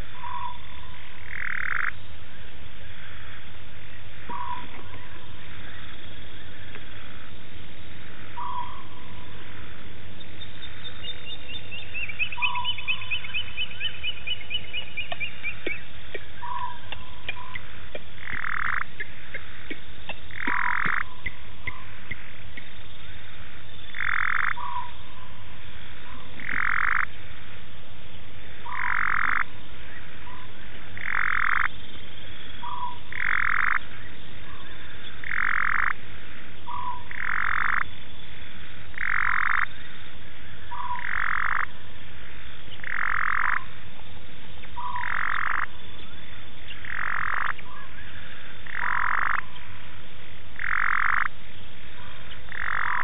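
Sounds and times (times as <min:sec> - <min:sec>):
frog calling: 0:00.0 - 0:27.5, 0:28.4 - 0:53.0
steady background noise: 0:00.0 - 0:53.0.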